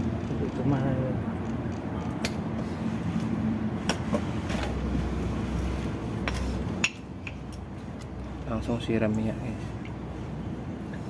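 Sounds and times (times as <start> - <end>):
workshop background noise: 0.0 - 10.3.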